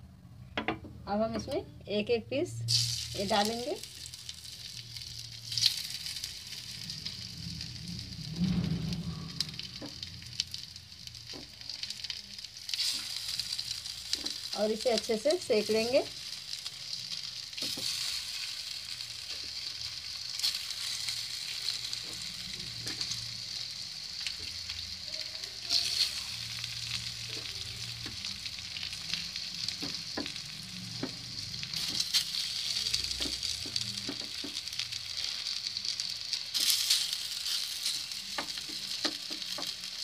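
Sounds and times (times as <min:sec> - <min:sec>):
dough frying in sizzling oil: 0:01.1 - 0:40.0.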